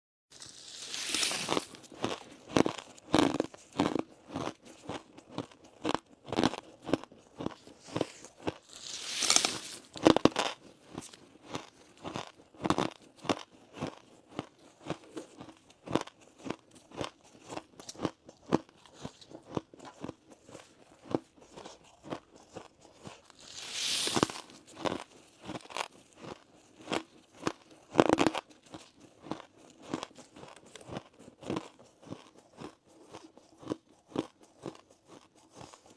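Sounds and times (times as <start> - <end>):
ice being chewed: 0.4 - 35.9.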